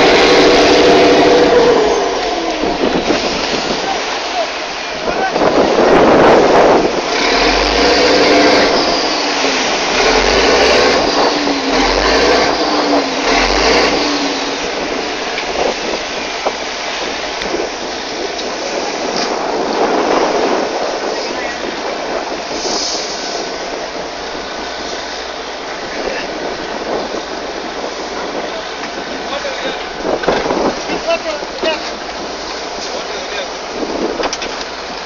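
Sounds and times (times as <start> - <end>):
water rushing past boat: 0.0 - 35.0
wind buffeting microphone: 0.0 - 35.0.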